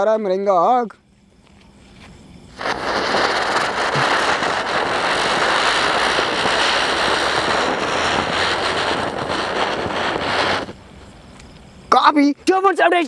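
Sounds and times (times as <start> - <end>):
spinner firework hissing: 1.0 - 12.0.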